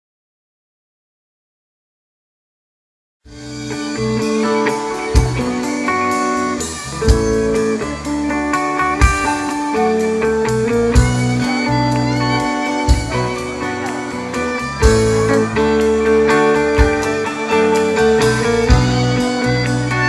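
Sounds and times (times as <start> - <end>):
heavy drum accent: 3.3 - 20.0
rock band playing: 3.3 - 20.0.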